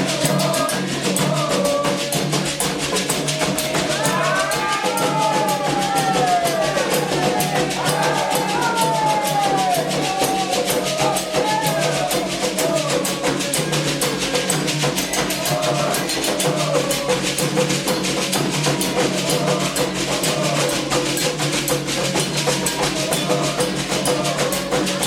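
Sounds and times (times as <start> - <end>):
fast hand drumming: 0.0 - 25.0
people chanting: 0.0 - 25.0.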